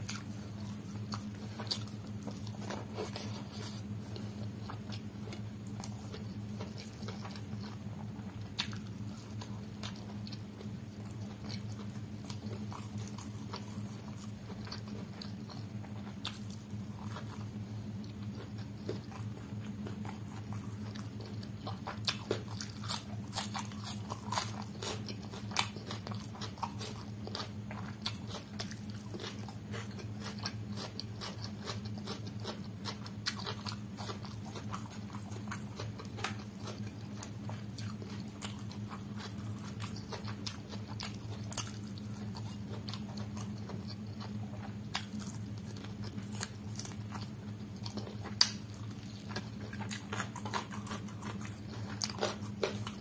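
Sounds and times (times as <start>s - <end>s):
person chewing food: 0.0s - 53.0s
steady low hum: 0.0s - 53.0s.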